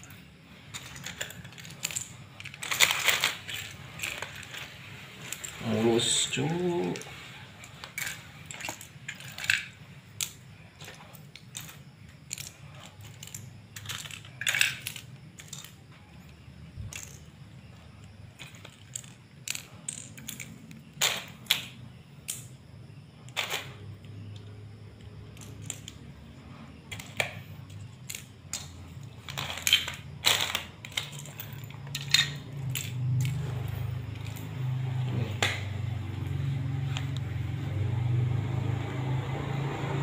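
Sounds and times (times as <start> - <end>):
plastic pieces clicking and clattering: 0.0 - 22.6, 23.2 - 37.3.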